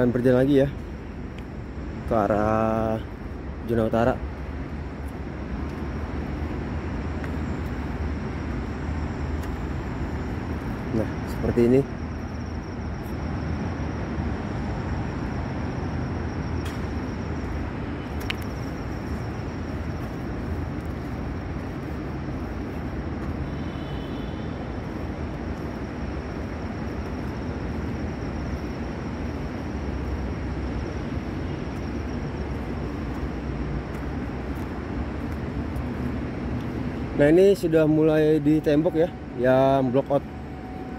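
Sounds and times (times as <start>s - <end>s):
low rumbling background noise: 0.0s - 40.9s.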